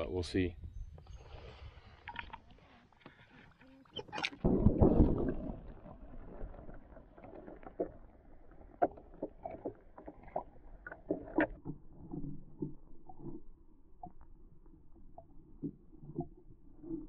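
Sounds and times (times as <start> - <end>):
muffled underwater clicks and knocks: 2.0 - 17.0.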